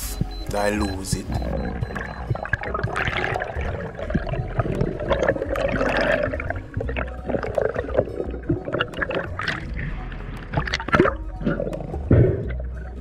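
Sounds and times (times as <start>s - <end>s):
water churning and gurgling: 0.3s - 13.0s.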